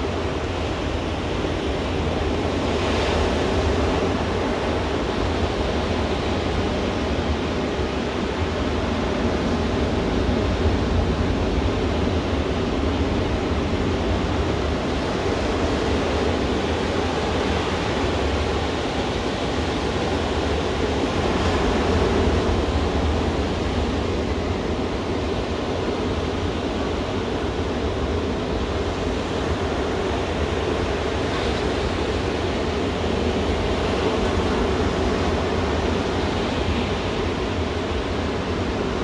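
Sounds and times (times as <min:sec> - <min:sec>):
ocean waves breaking on beach: 0:00.0 - 0:39.0.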